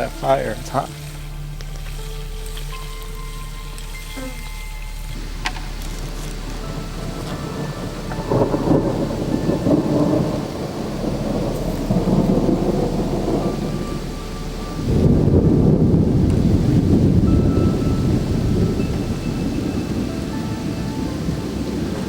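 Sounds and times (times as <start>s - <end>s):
thunder rumbling: 0.0s - 22.0s.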